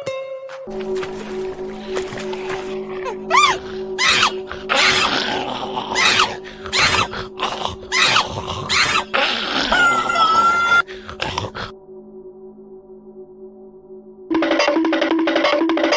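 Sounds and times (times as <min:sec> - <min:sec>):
background music drone: 0:00.0 - 0:15.9.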